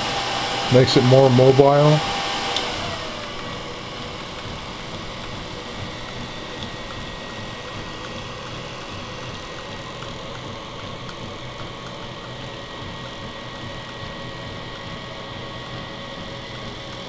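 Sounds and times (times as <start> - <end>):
cooling fan whirring: 0.0 - 17.0
stepper motors ticking and whining: 0.0 - 17.0.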